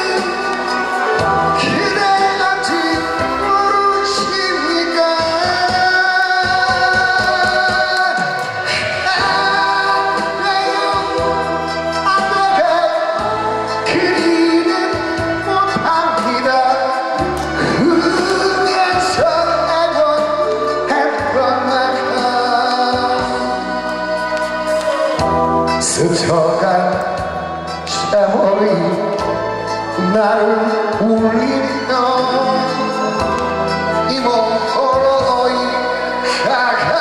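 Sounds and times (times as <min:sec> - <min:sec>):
instrumental backing music: 0:00.0 - 0:37.0
man singing into microphone: 0:00.0 - 0:37.0.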